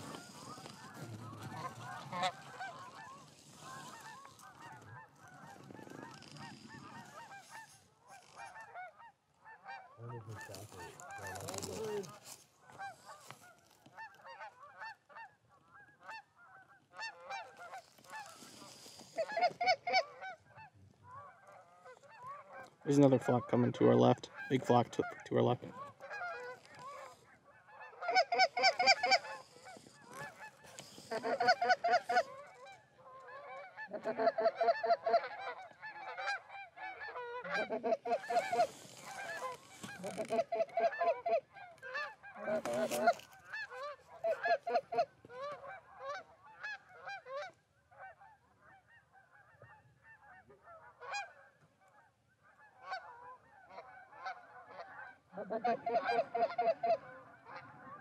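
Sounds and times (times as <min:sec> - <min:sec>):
goose honks and clucks: 0:00.0 - 0:58.0.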